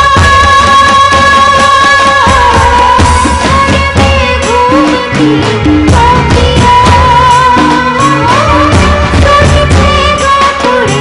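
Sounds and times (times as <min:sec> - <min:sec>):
drum beats: 0:00.0 - 0:11.0.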